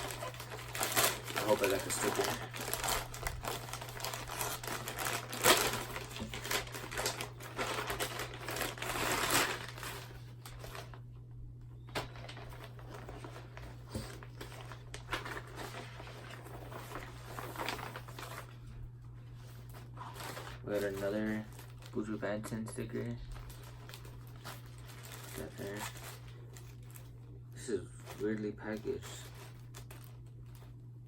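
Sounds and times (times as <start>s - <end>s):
packaging crinkling and rustling: 0.0s - 11.0s, 11.8s - 27.3s, 28.0s - 31.0s
low electrical hum: 0.0s - 31.0s.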